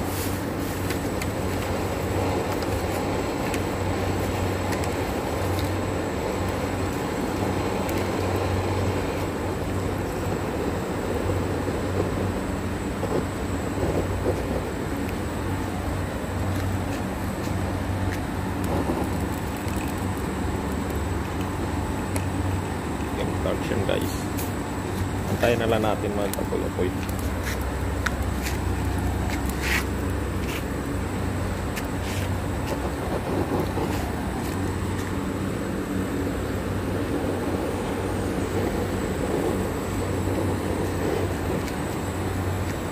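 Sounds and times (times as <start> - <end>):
torch flame rushing: 0.0 - 42.9.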